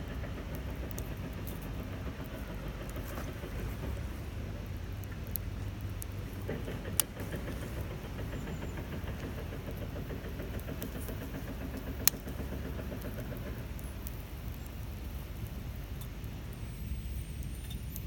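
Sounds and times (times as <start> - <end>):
wood fire rumbling and crackling: 0.0 - 18.0.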